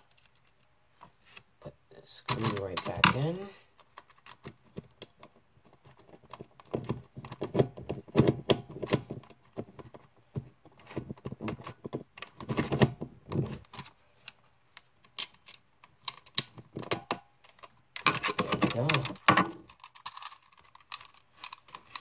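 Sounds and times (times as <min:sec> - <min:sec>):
plastic puzzle cube clicks and rattles: 0:02.2 - 0:22.0.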